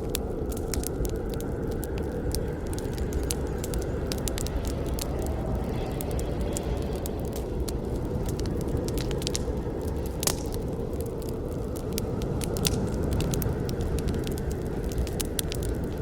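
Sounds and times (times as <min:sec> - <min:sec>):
campfire flames rushing: 0:00.0 - 0:16.0
wood crackling and snapping: 0:00.0 - 0:16.0.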